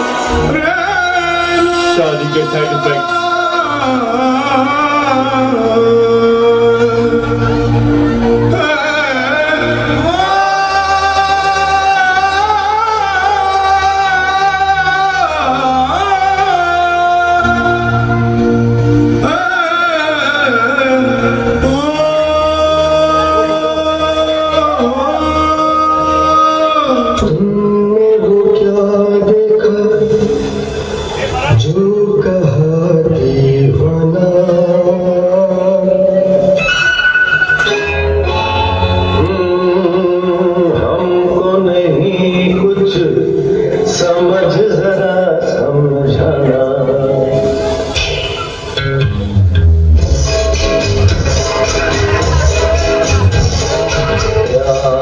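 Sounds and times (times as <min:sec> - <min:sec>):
person singing long gliding notes: 0:00.0 - 0:49.4
instrumental backing with bass line: 0:00.0 - 0:55.0.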